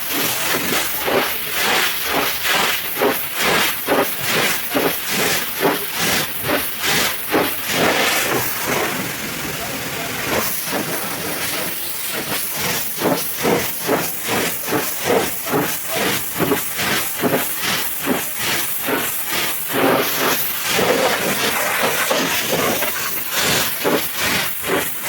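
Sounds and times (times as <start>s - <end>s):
pressure washer jet spraying water: 0.0s - 25.0s.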